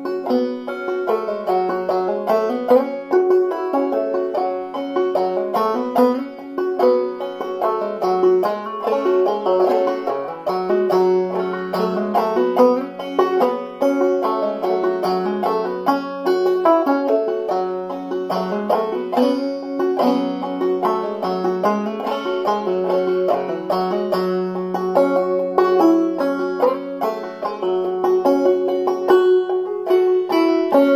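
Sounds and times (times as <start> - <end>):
banjo playing old-time tune: 0.0 - 30.9.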